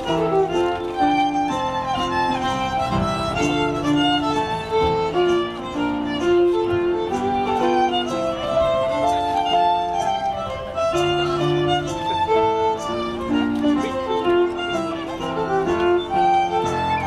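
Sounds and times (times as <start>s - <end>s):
fiddle playing a dance tune: 0.0s - 17.0s.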